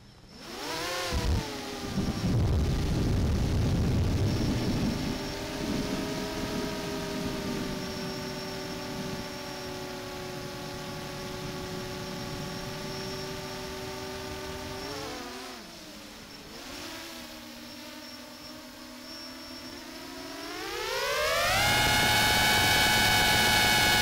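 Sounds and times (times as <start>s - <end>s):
drone propellers buzzing whine: 0.0s - 24.0s.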